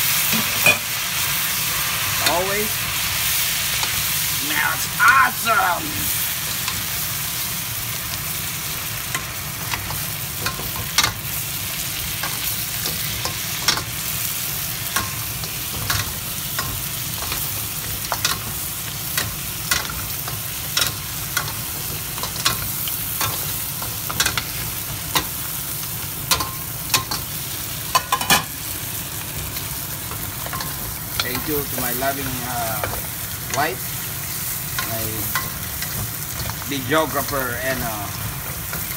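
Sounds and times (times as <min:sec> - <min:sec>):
lobster sizzling in butter: 0:00.0 - 0:38.9.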